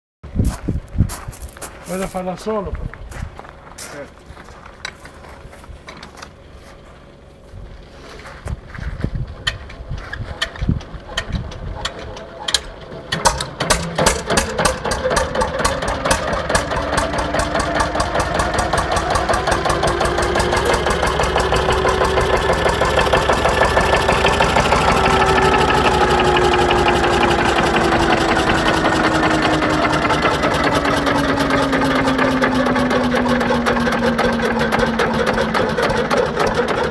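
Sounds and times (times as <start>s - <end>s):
tractor engine starting and running: 1.3s - 36.9s.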